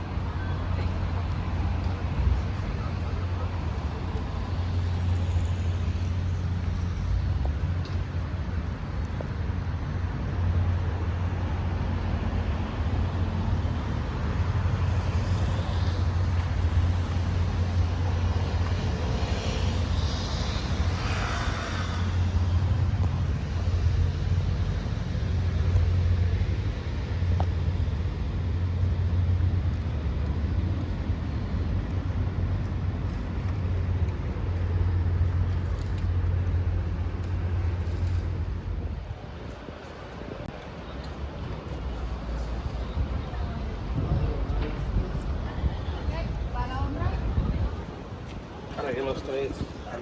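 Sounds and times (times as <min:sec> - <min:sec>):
city street traffic rumble: 0:00.0 - 0:50.0.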